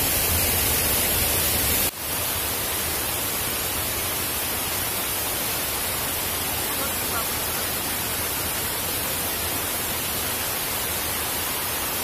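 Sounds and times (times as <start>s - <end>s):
water rushing down rocks: 0.0s - 12.0s.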